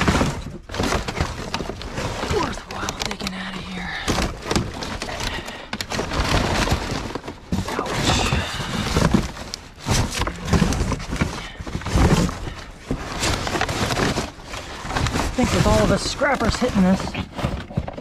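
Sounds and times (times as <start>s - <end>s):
debris clattering in a dumpster: 0.0s - 18.0s.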